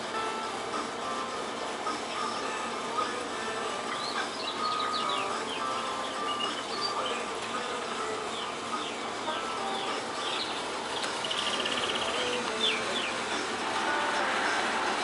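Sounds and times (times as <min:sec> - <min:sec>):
steady background hiss: 0:00.0 - 0:15.0
rapid bird trill: 0:01.3 - 0:13.6
small birds chirping: 0:01.6 - 0:13.6.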